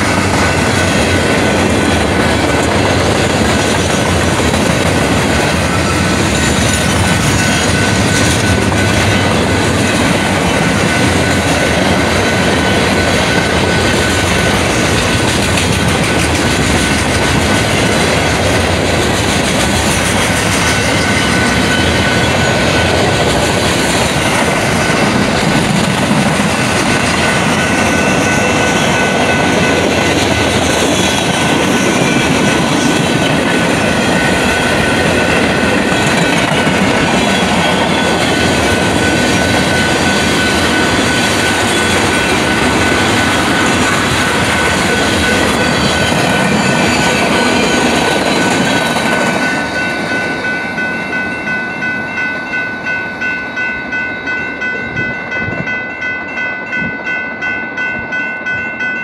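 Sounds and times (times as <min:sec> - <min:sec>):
crossing bell dinging: 0:00.0 - 0:59.0
train wheels rumbling on rails: 0:00.0 - 0:59.0.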